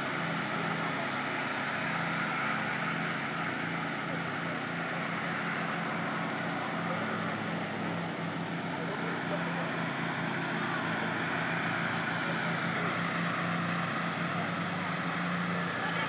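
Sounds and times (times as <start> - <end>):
lawnmower engines droning: 0.0 - 16.0.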